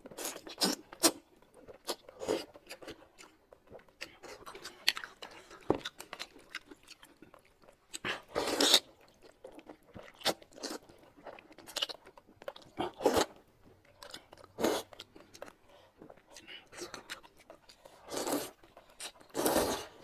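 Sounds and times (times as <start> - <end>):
person slurping and chewing: 0.0 - 13.4, 14.0 - 20.0.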